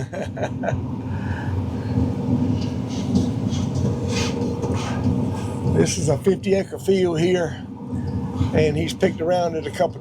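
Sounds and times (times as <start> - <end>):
combine harvester rumbling: 0.0 - 10.0.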